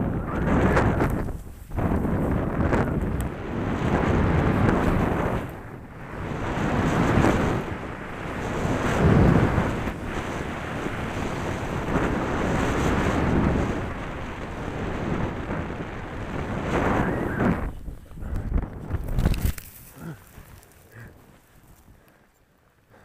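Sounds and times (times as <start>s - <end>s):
wind rushing over microphone: 0.0s - 22.1s.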